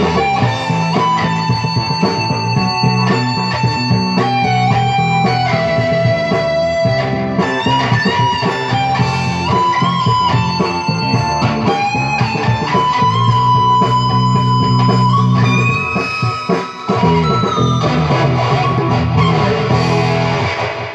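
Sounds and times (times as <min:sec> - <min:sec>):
electric guitar lead: 0:00.0 - 0:20.9.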